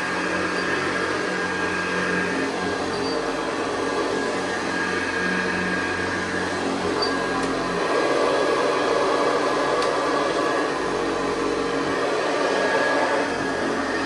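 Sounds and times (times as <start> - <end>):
upright vacuum cleaner running: 0.0 - 14.0.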